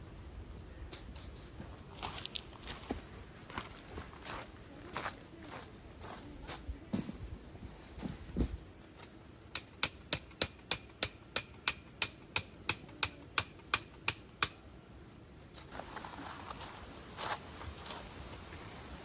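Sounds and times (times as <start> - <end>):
steady high-pitched hiss: 0.0 - 19.0.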